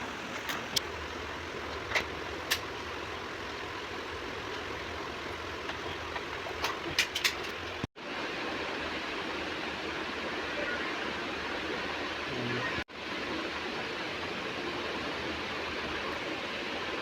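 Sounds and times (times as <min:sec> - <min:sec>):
air conditioner blower running: 0:00.0 - 0:17.0.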